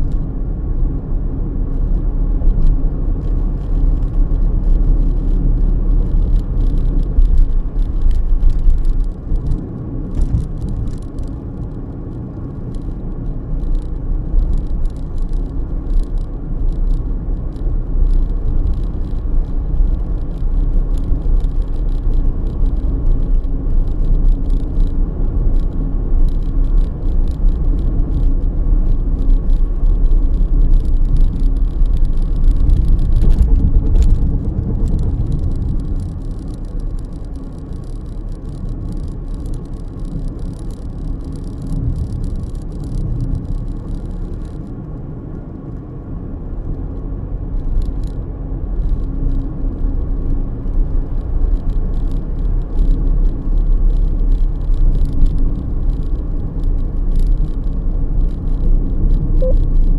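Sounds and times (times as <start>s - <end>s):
car engine running: 0.0s - 59.9s
tyres rumbling on asphalt: 0.0s - 59.9s.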